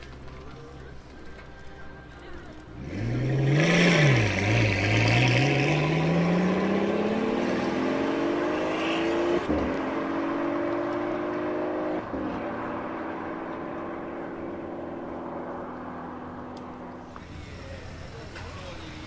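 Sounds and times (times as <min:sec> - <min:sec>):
car engine accelerating: 0:02.1 - 0:19.0.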